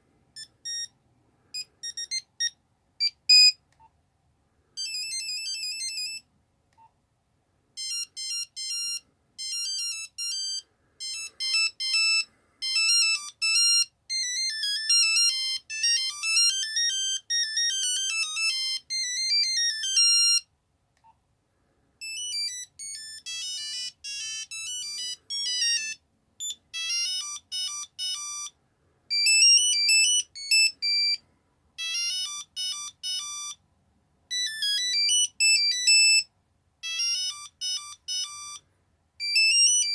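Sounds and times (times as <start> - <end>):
monophonic phone ringtones: 0.4 - 1.0, 1.6 - 3.6, 4.8 - 6.3, 7.8 - 20.5, 22.0 - 31.2, 31.8 - 33.6, 34.3 - 38.6, 39.2 - 39.9.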